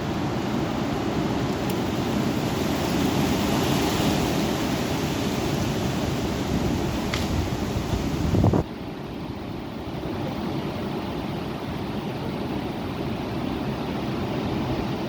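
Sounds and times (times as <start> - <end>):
strong wind blowing: 0.0 - 15.0.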